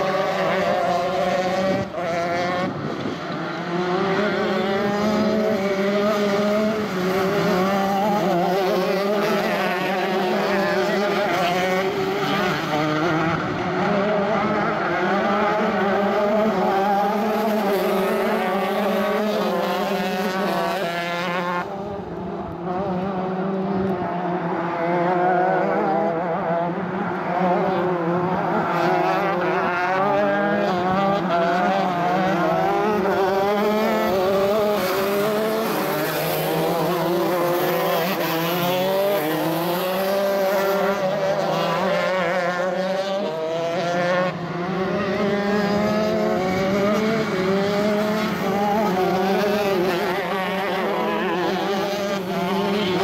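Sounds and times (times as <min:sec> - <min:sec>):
racing kart engines at high revs: 0:00.0 - 0:53.0.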